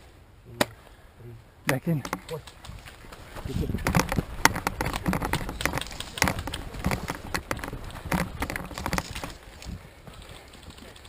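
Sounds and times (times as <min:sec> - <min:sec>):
running footsteps: 0:02.1 - 0:11.0.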